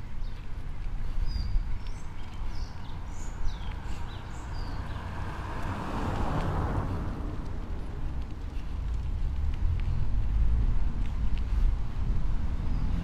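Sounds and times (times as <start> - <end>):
bicycle road rumble: 0.0 - 13.0.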